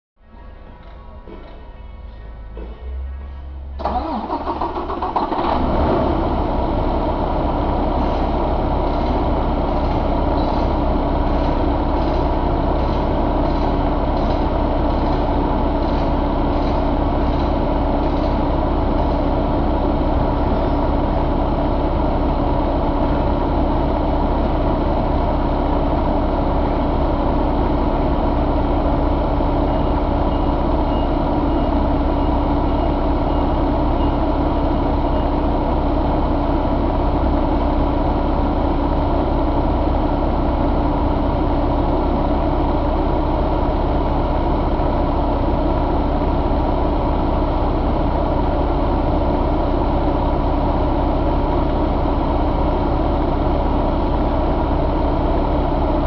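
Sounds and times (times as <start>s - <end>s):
diesel engine starting and idling: 0.2s - 56.0s.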